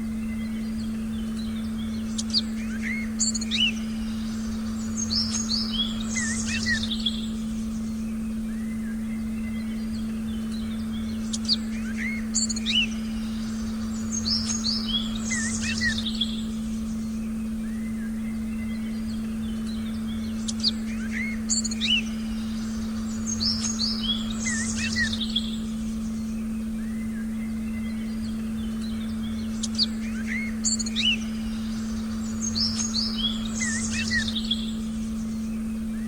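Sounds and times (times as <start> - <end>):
low steady pure tone: 0.0 - 36.0
small birds chirping: 0.0 - 36.0.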